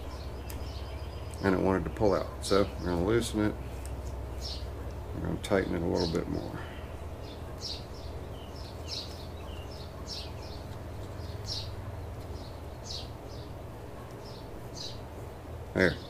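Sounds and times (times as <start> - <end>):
low steady hum: 0.0 - 16.0
small birds chirping: 0.0 - 16.0.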